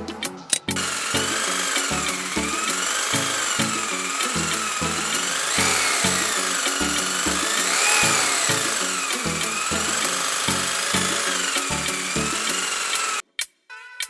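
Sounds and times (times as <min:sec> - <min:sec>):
background music with beat: 0:00.0 - 0:12.5
small power tool whining: 0:00.8 - 0:13.2.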